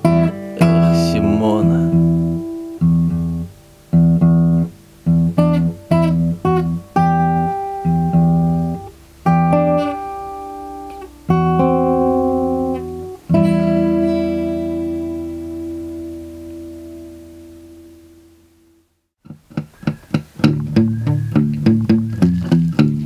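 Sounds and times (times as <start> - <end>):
guitar chords: 0.0 - 23.0.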